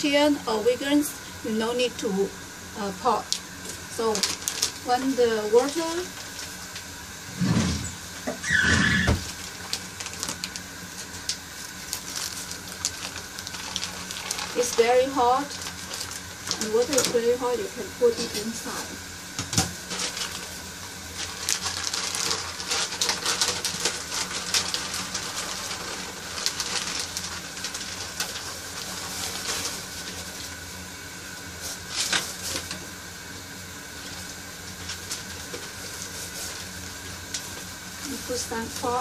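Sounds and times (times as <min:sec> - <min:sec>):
steady low hum: 0:00.0 - 0:39.0
plastic bag crinkling: 0:02.8 - 0:07.1, 0:08.4 - 0:18.8, 0:19.8 - 0:30.7, 0:31.6 - 0:32.9, 0:33.9 - 0:39.0.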